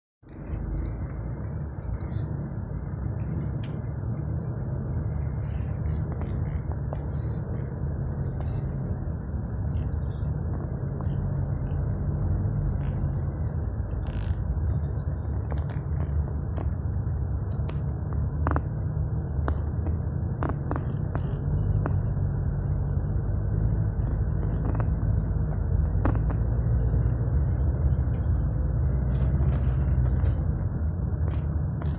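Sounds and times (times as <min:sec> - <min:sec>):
traffic rumble: 0:00.2 - 0:31.9.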